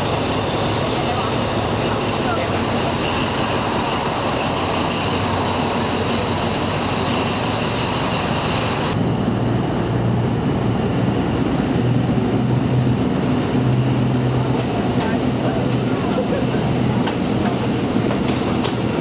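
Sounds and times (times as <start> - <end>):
train rumble and rattle: 0.0 - 19.0.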